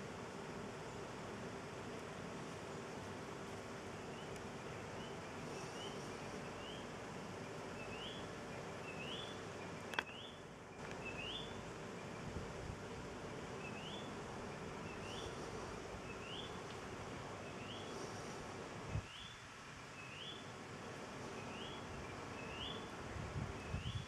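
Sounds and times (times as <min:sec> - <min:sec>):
outdoor hiss: 0:00.0 - 0:24.0.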